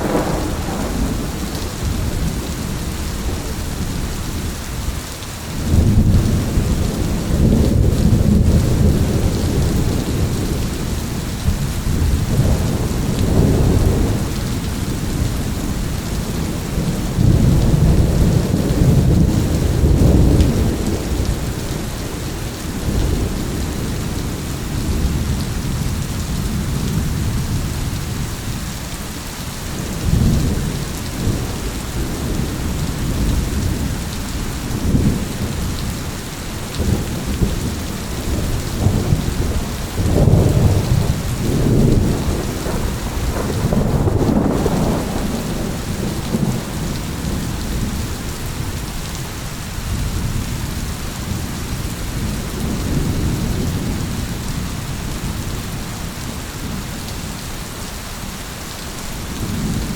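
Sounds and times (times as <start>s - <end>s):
thunder rumbling: 0.0s - 5.0s, 5.6s - 28.7s, 29.7s - 57.4s, 59.2s - 59.9s
heavy rain: 0.0s - 59.9s.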